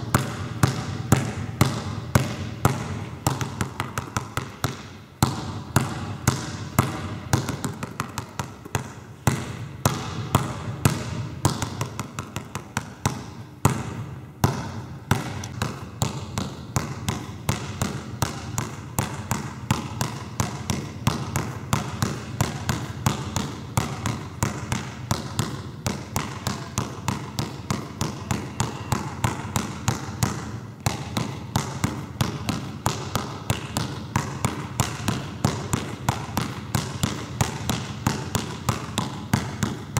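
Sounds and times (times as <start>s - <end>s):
basketball bouncing on wooden floor: 0.0s - 39.9s.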